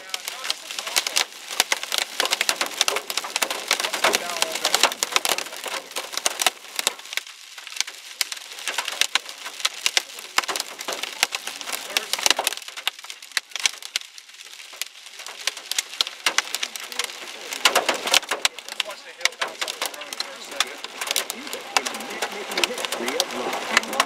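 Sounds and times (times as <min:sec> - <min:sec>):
hail pelting vehicle roof: 0:00.0 - 0:24.0.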